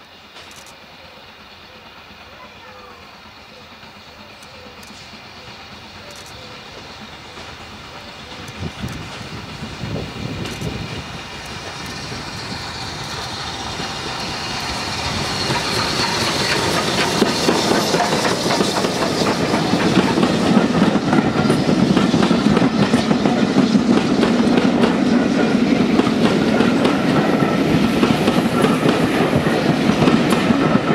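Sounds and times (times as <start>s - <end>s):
steam train rolling noise: 0.0s - 30.9s.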